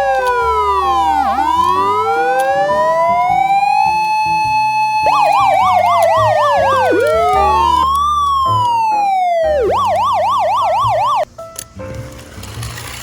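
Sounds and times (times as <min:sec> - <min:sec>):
toy ambulance electronic siren: 0:00.0 - 0:11.3.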